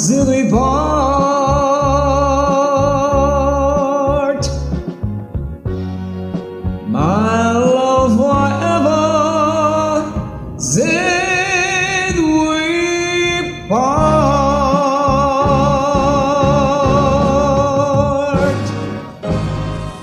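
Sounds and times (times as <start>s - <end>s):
karaoke backing track: 0.0s - 20.0s.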